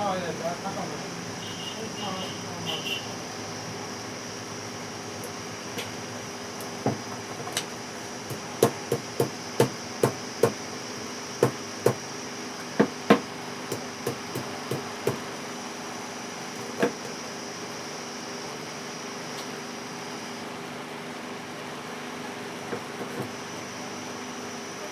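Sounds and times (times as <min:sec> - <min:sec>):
steady hum: 0:00.0 - 0:21.8.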